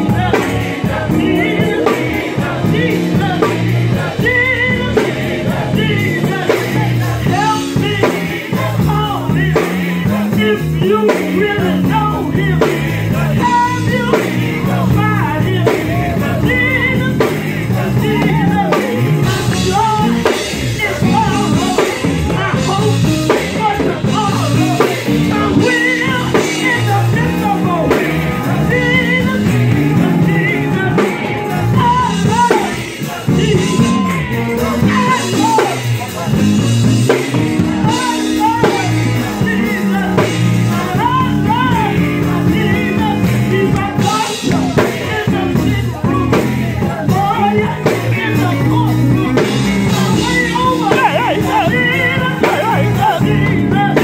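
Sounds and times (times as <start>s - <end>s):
electric guitar: 0.0s - 54.0s
keyboards: 0.0s - 54.0s
voices singing gospel: 0.0s - 54.0s.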